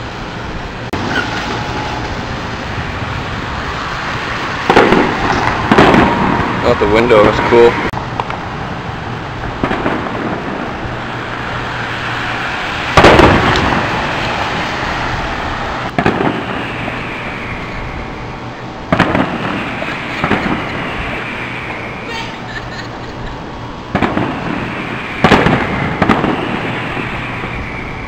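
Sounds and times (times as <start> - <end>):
fireworks booming: 0.0 - 28.0
steady background noise: 0.0 - 28.0.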